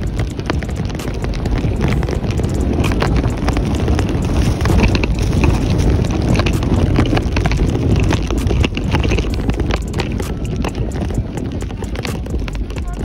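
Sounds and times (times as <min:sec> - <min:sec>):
crunchy clicks from snow: 0:00.0 - 0:13.0
wind buffeting microphone: 0:00.0 - 0:13.0.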